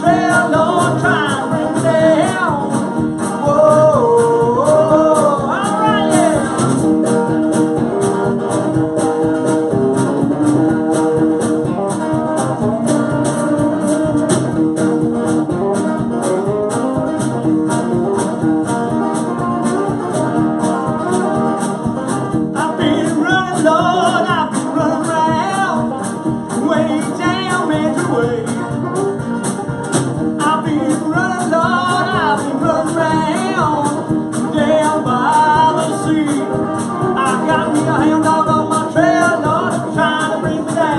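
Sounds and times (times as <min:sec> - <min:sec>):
country blues band playing: 0:00.0 - 0:40.9
drum beat: 0:00.0 - 0:40.9
electric guitar lead with bends: 0:00.0 - 0:40.9.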